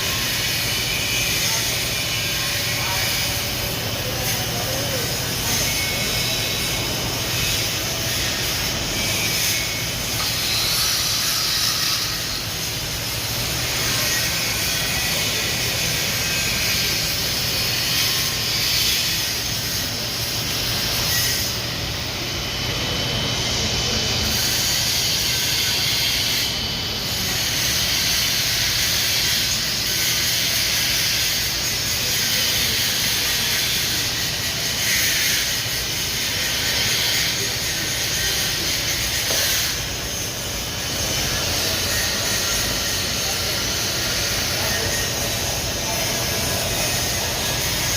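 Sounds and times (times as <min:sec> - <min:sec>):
welding arc crackling hiss: 0:00.0 - 0:47.9.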